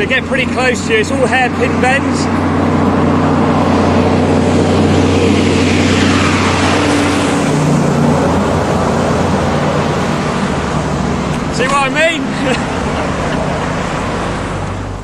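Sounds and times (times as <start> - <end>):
truck passing by: 0.0 - 15.0.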